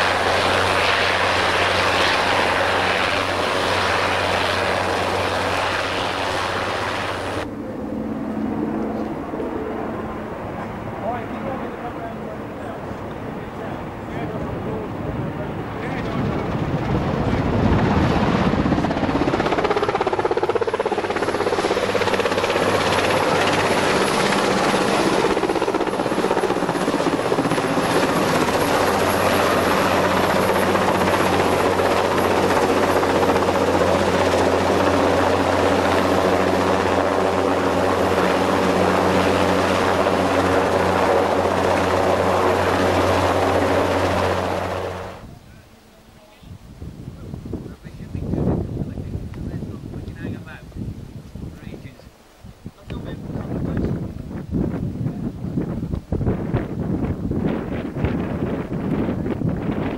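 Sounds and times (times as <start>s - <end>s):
helicopter rotor beating: 0.0s - 45.4s, 52.9s - 59.9s
helicopter turbine whine: 0.0s - 59.9s.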